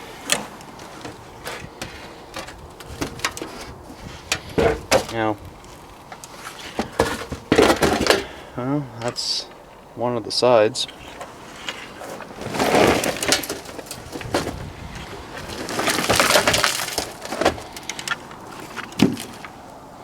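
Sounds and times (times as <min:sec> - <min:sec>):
plastic and glass parts crackling: 0:00.2 - 0:08.4, 0:10.9 - 0:19.7.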